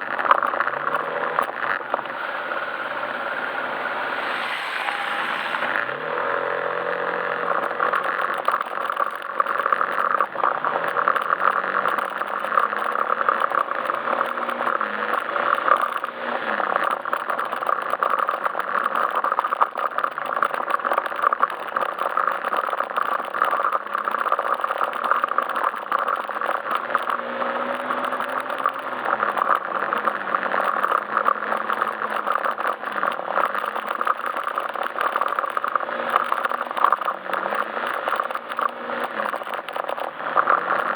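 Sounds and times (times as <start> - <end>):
road and wind noise: 0.0 - 40.9
scooter engine running: 0.0 - 40.9.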